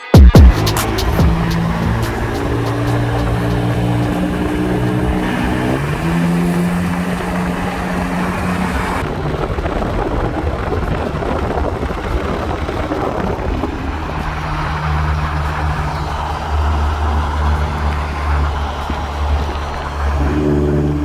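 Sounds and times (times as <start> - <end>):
car engine drone: 0.0 - 21.0
road and wind noise: 0.4 - 21.0.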